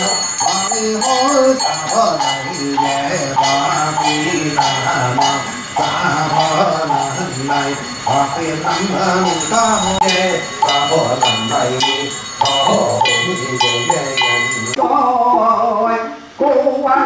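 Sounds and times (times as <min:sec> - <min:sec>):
metal bell struck rhythmically: 0:00.0 - 0:14.8
voices chanting: 0:00.0 - 0:14.8.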